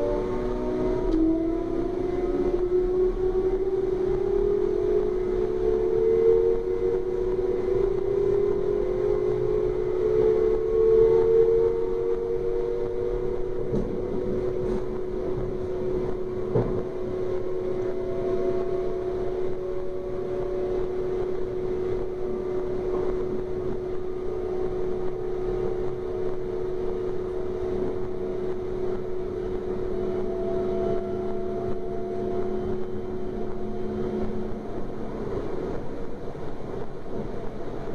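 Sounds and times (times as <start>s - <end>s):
electric train drive whining: 0.0s - 37.9s
train rolling noise: 0.0s - 37.9s.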